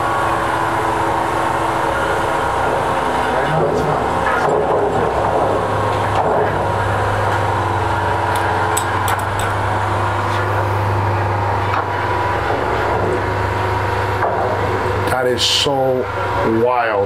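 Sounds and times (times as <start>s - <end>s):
diesel engines humming: 0.0s - 17.0s.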